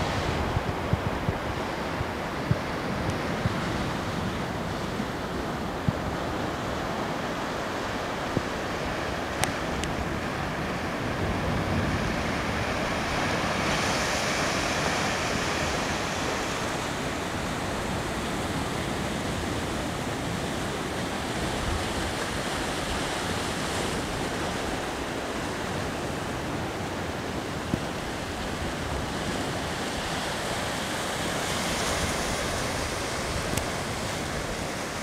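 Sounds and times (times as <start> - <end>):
sea waves: 0.0 - 35.0
wind: 0.0 - 35.0
wind buffeting microphone: 0.0 - 35.0.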